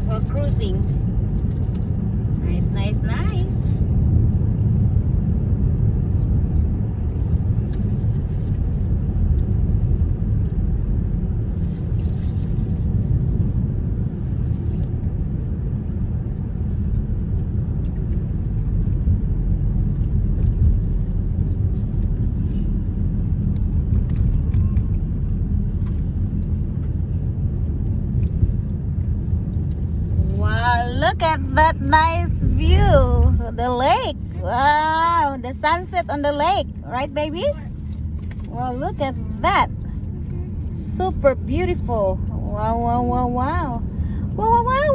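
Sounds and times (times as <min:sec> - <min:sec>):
car tyres and engine rumble: 0:00.0 - 0:44.9.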